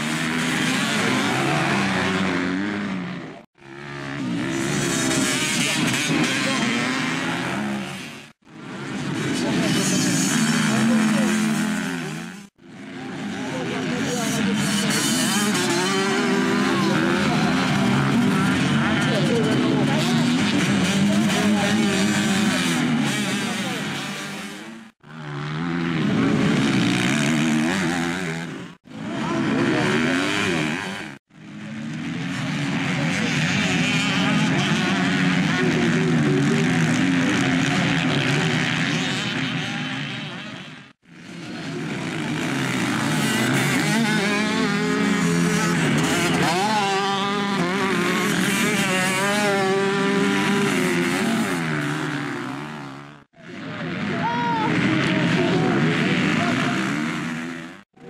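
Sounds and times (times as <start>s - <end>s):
dirt-bike engines revving: 0.0s - 58.0s.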